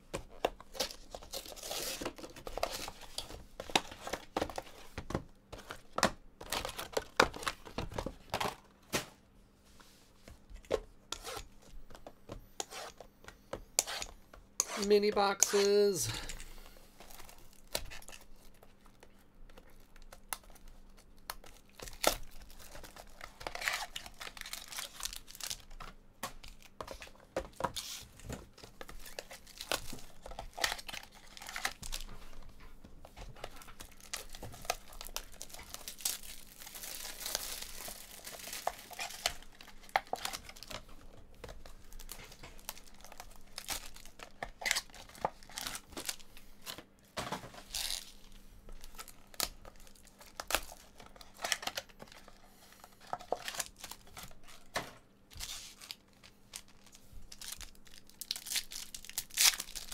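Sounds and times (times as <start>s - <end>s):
plastic and foil packaging crinkling: 0.2s - 8.7s, 13.8s - 46.9s, 47.5s - 59.9s.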